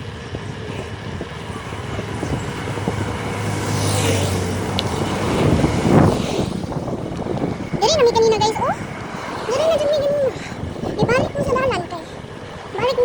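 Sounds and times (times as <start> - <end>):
rushing traffic or wind: 0.0 - 13.0
vehicle engine hum: 0.0 - 13.0.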